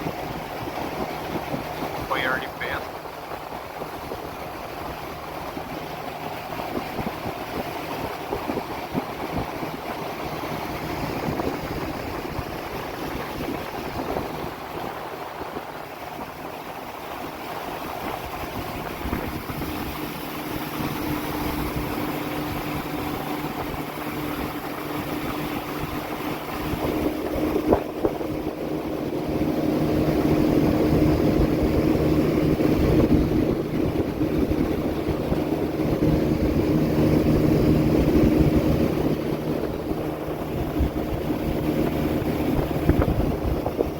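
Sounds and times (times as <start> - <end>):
outboard motor running: 0.0 - 43.9
water and air rushing: 0.0 - 43.9.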